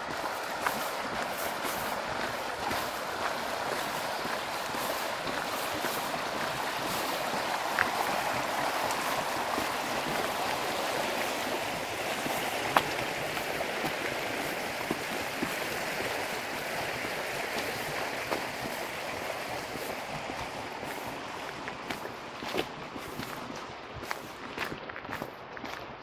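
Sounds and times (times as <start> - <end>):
river rippling over shallows: 0.0 - 26.0.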